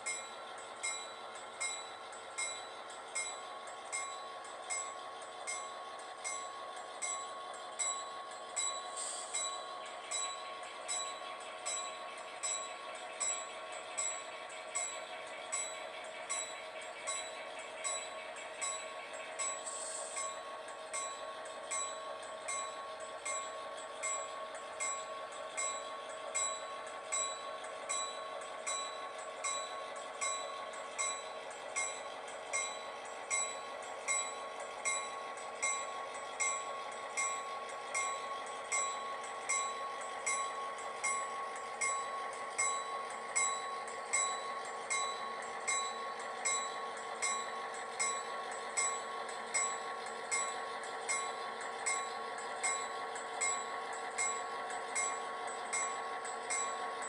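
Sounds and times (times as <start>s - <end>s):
locomotive bell ringing: 0.0s - 57.0s.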